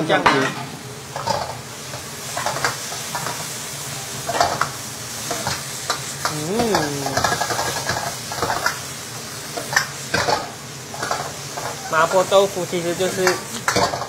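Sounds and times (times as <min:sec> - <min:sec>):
meat sizzling in a wok: 0:00.0 - 0:14.0.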